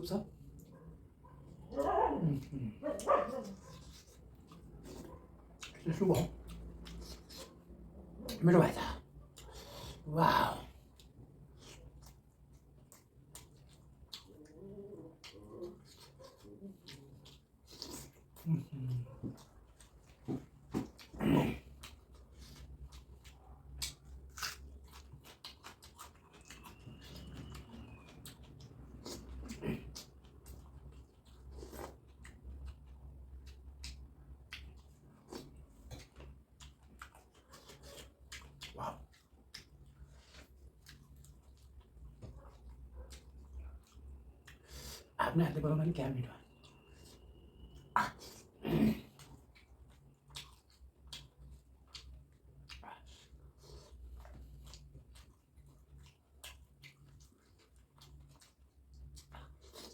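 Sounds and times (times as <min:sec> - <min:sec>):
chewing and mouth clicks: 0:00.2 - 0:45.2, 0:46.3 - 0:59.9.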